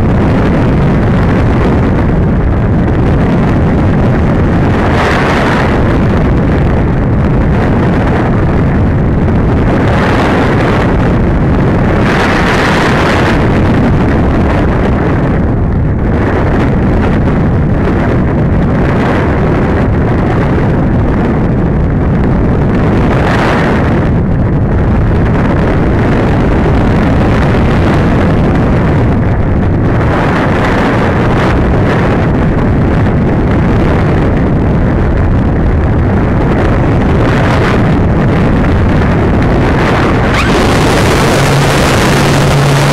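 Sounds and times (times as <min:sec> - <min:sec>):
airflow buffeting microphone: 0:00.0 - 0:42.9.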